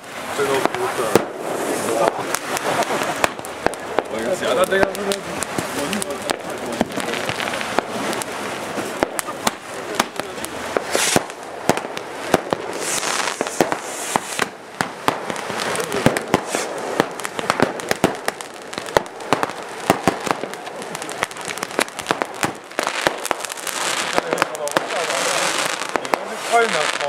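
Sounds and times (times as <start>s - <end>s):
fireworks cracking and popping: 0.0s - 27.0s
hiss of spraying sparks: 0.0s - 27.0s.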